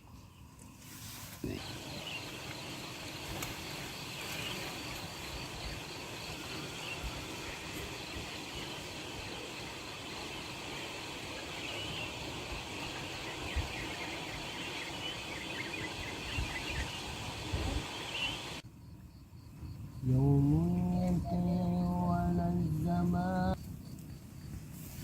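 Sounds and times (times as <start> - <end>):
forest ambience hiss: 0.0 - 25.0.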